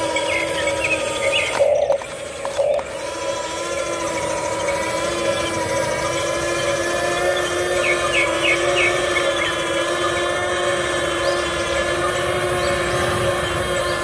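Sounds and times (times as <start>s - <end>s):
electric gear motors whining: 0.0s - 14.0s.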